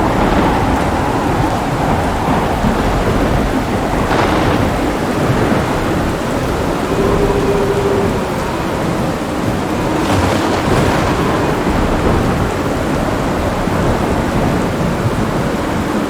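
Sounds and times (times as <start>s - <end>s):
heavy rain: 0.0s - 16.0s
rolling thunder rumbling: 0.0s - 16.0s
thunder crackle: 0.0s - 16.0s.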